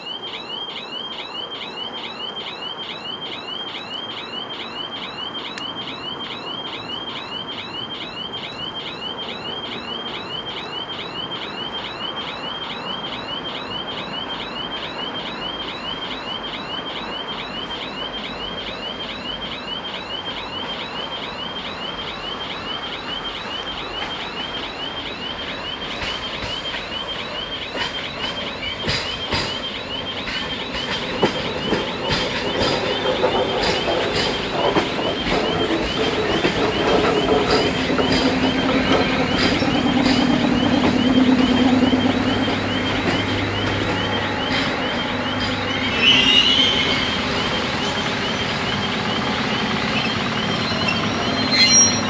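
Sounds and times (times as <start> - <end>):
crossing bells electronic chirp: 0.0 - 52.0
train wheels clicking on rails: 0.2 - 52.0.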